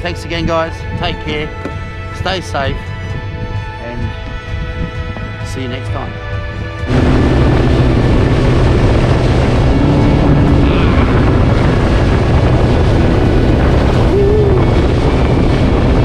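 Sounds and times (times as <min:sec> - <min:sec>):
watercraft engine drone: 0:00.0 - 0:16.0
wind noise on microphone: 0:00.0 - 0:16.0.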